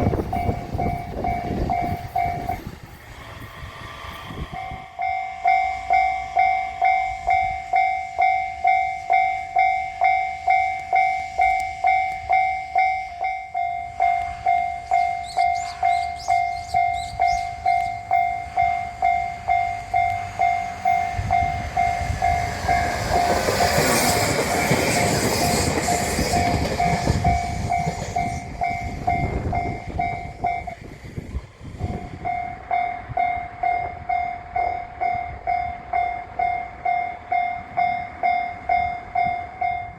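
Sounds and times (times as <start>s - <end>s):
railroad crossing alarm ringing: 0.0s - 39.9s
train passing with wheel noise: 0.0s - 39.9s.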